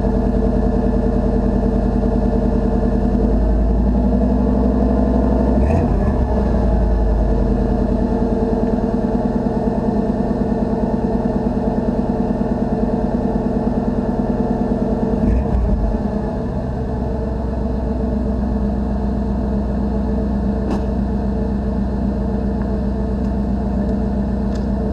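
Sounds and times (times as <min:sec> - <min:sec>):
pickup truck engine idling: 0:00.0 - 0:05.6, 0:06.4 - 0:24.9.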